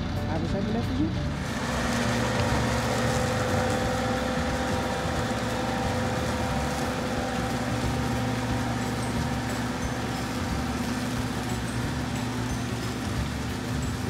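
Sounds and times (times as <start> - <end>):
mower fan whirring: 0.0 - 14.0
tractor engine running: 0.0 - 14.0.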